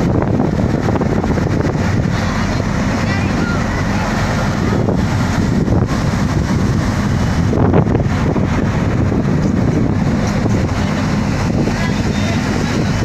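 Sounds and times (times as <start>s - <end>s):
boat engine rumble: 0.0s - 13.0s
wind buffeting microphone: 0.0s - 13.0s.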